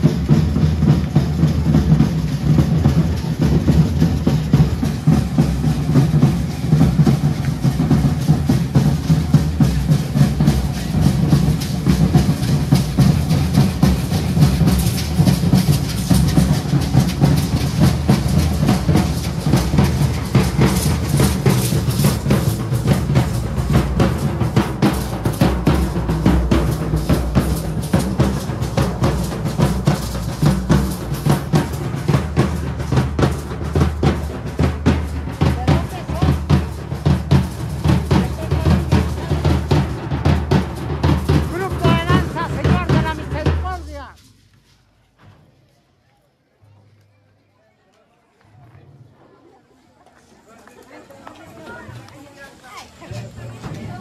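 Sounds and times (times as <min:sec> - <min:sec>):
drum beaten in fast rhythm: 0:00.0 - 0:44.2.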